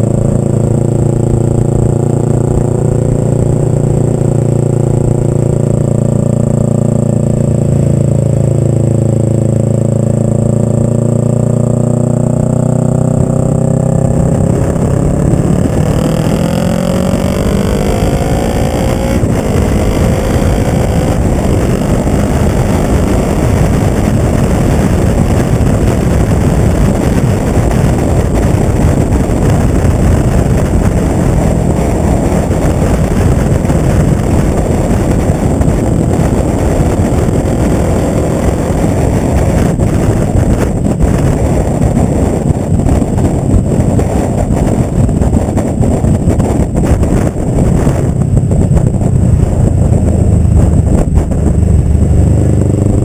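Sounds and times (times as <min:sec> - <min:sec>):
motorcycle engine accelerating: 0:00.0 - 0:53.0
wind rush on microphone: 0:00.0 - 0:53.0.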